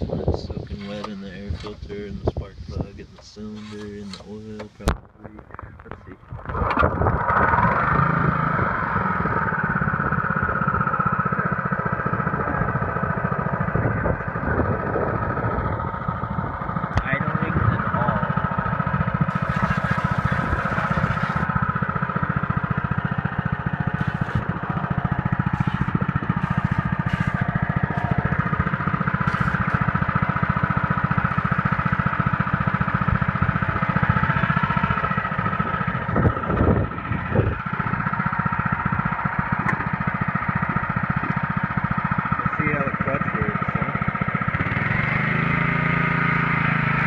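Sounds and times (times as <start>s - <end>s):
lawn mower engine running: 0.0s - 47.0s.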